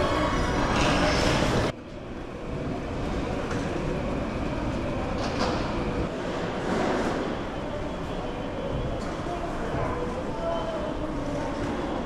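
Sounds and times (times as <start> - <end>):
station concourse rumble and hiss: 0.0 - 12.0.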